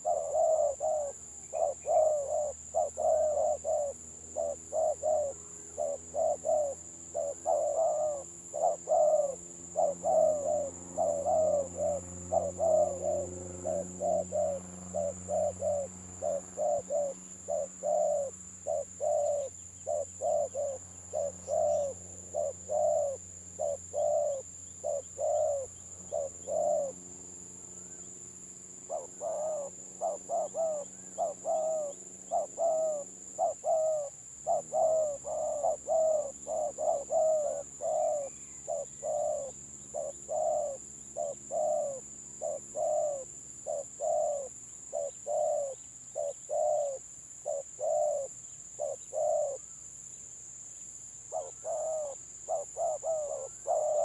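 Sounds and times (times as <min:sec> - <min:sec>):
doves cooing: 0:00.0 - 0:27.2, 0:28.8 - 0:49.8, 0:51.3 - 0:54.0.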